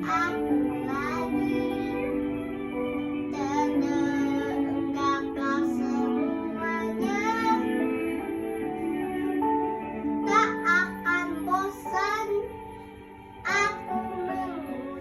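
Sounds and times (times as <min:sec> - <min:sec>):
young woman singing: 0:00.0 - 0:02.6, 0:03.3 - 0:09.2, 0:09.8 - 0:12.6, 0:13.4 - 0:15.0
instrumental backing music: 0:00.0 - 0:15.0.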